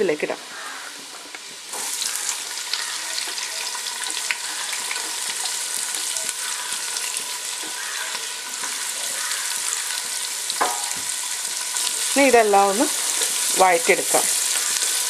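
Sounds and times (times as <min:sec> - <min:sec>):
onion sizzling in oil: 0:00.0 - 0:15.0.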